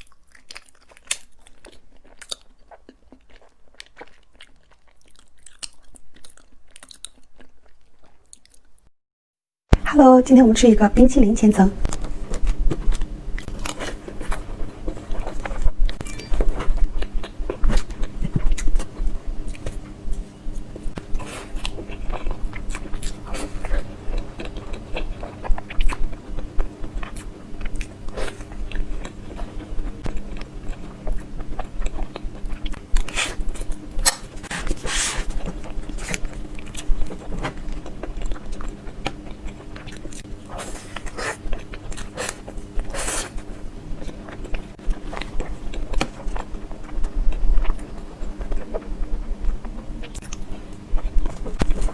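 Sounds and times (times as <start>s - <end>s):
person chewing cake: 0.0s - 8.9s, 11.8s - 51.9s.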